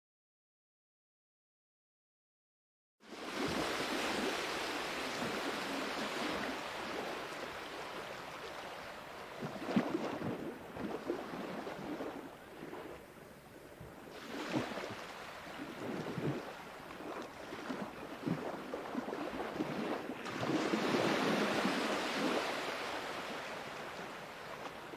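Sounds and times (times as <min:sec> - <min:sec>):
sea waves washing onto shore: 0:03.0 - 0:13.1, 0:14.1 - 0:24.9.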